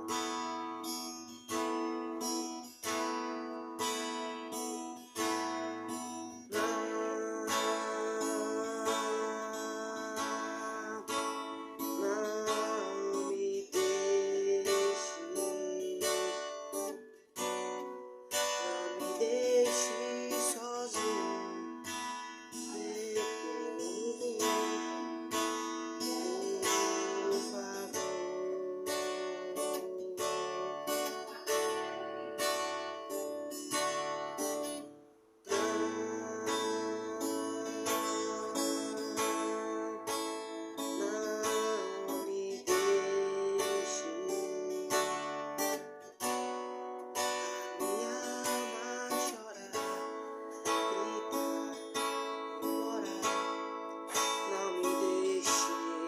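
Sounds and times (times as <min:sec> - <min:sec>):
acoustic guitar strumming and picking: 0:00.0 - 0:56.0.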